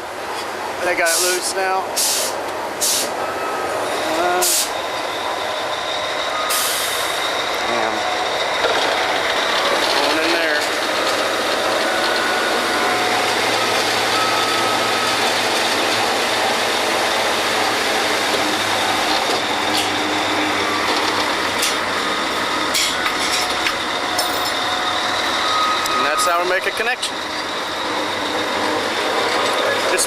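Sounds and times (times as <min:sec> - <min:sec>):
drilling rig machinery running: 0:00.0 - 0:30.0.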